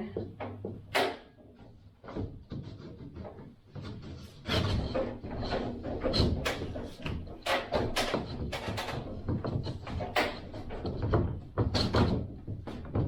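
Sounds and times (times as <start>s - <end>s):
boards knocking and clattering: 0.0s - 13.0s.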